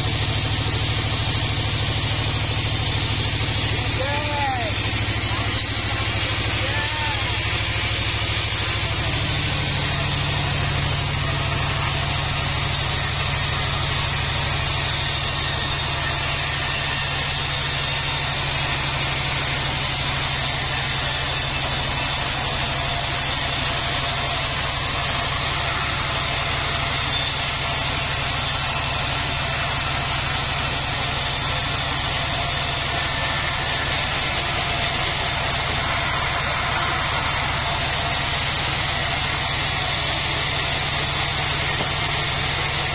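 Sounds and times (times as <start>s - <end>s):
band sawmill running: 0.0s - 42.9s.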